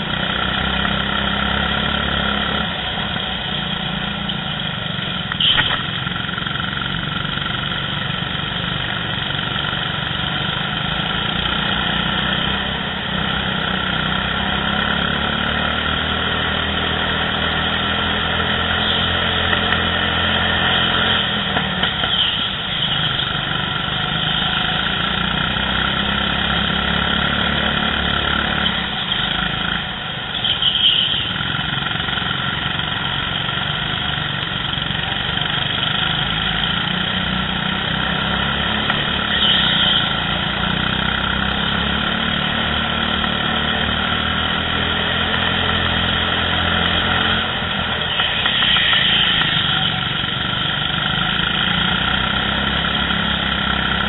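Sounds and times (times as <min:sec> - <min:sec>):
go-kart engines running: 0:00.0 - 0:54.0.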